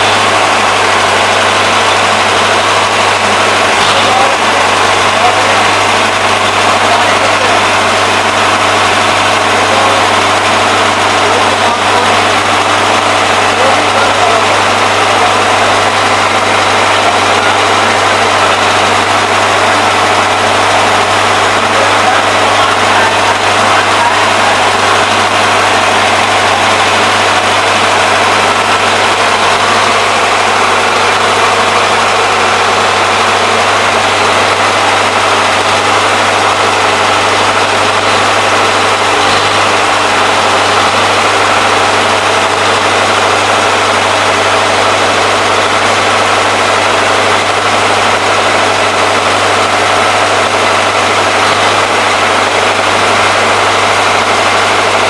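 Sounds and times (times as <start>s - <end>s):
generator engine humming: 0.0s - 55.0s.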